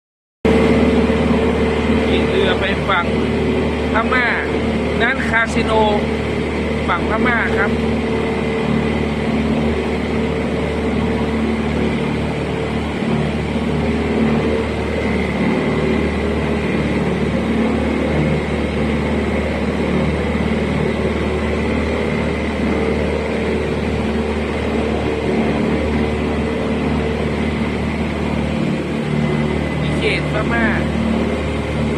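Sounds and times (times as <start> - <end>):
boat engine droning: 0.5 - 31.9
continuous rushing noise: 0.5 - 31.9.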